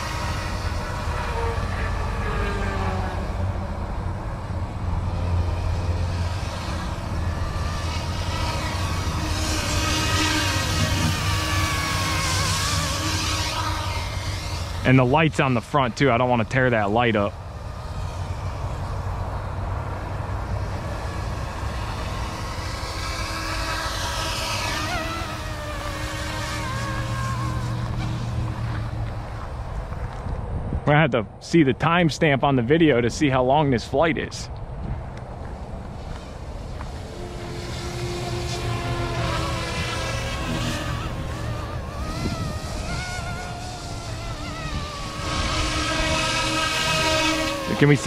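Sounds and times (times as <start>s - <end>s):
helicopter rotor hum: 0.0s - 30.2s, 32.7s - 48.0s
high motor whine: 0.0s - 48.0s.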